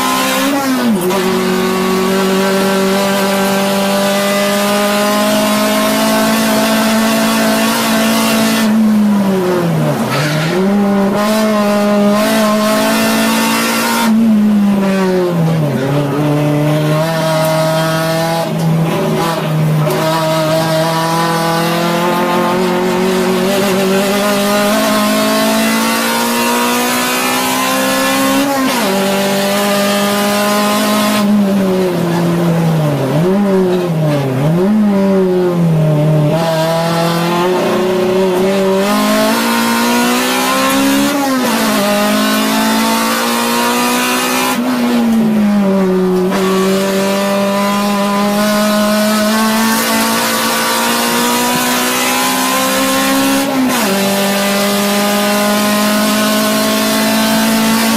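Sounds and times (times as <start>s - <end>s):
car engine revving at high revs: 0.0s - 57.9s.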